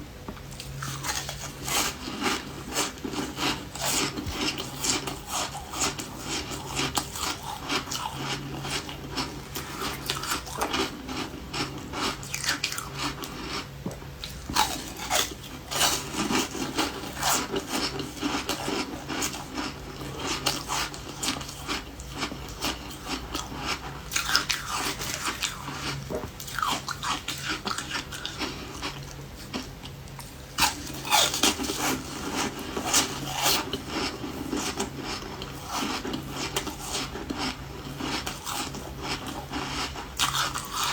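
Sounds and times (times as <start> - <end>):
person chewing ice: 0.5 - 40.9.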